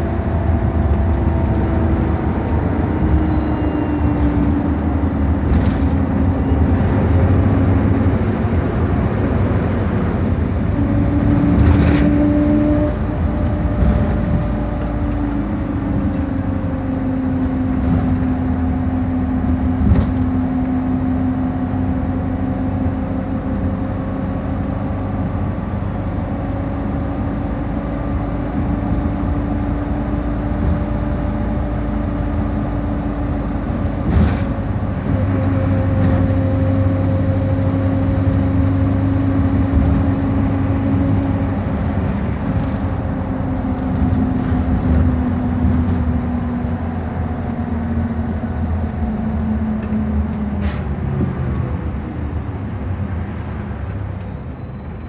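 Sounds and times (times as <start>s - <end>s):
bus body rattling: 0.0s - 55.0s
bus engine rumble: 0.0s - 55.0s.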